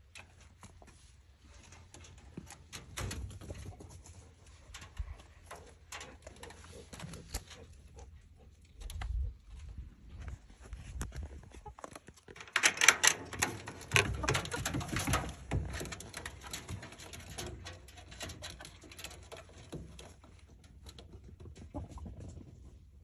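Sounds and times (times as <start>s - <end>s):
chickens pecking and scratching: 0.0s - 23.0s.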